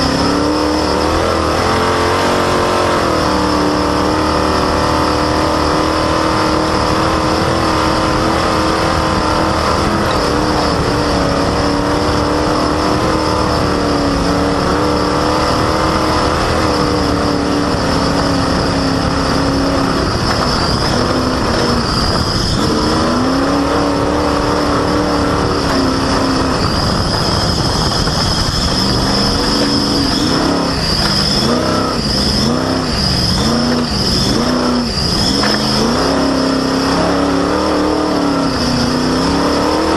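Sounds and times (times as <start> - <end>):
drive belt squealing: 0.0 - 39.9
race vehicle engine revving: 0.0 - 39.9
wind and road noise: 0.0 - 39.9.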